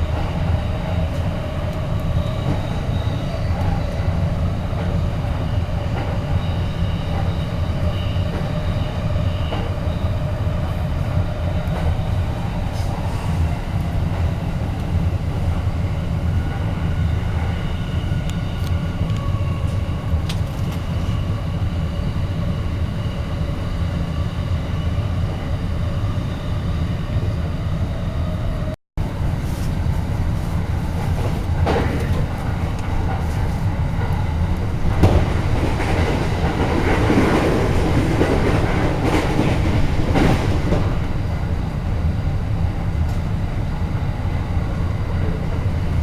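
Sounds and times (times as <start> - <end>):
train low rumble: 0.0 - 46.0.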